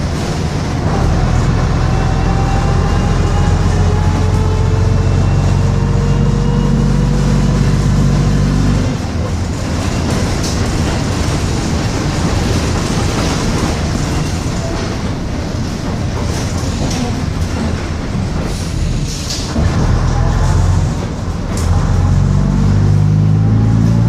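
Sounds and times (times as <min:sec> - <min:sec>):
bus diesel engine pulling: 0:00.0 - 0:24.0
road noise rumble: 0:00.0 - 0:24.0.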